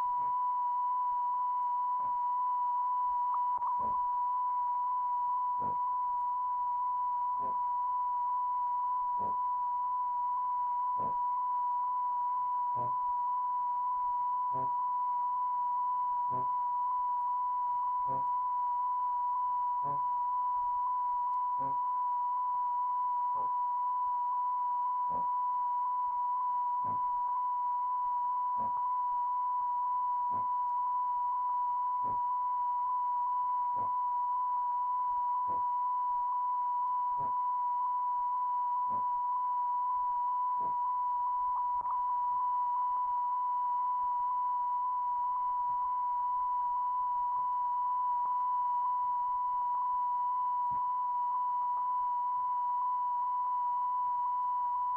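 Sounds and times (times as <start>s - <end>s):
steady test tone: 0.0s - 54.9s.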